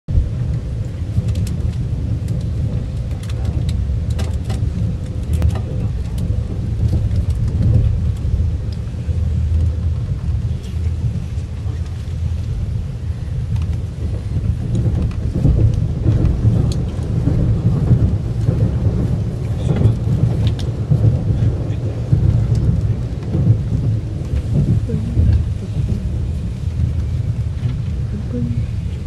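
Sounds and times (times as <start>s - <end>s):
train rumble from inside carriage: 0.1s - 29.0s.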